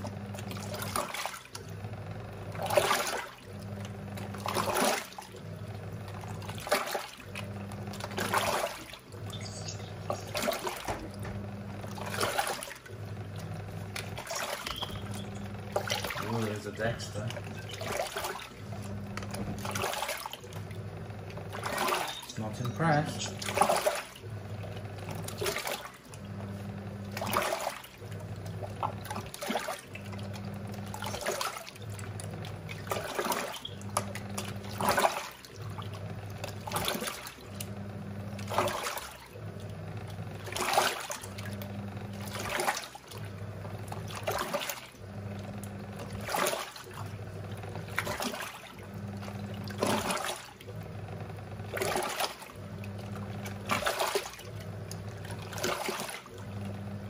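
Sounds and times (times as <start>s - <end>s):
washing machine motor humming: 0.0s - 57.0s
water sloshing in drum: 0.0s - 57.0s.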